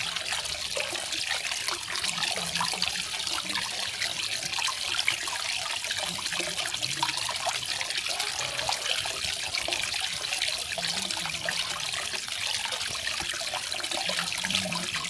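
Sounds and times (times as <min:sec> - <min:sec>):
waterfall splashing and trickling: 0:00.0 - 0:15.0.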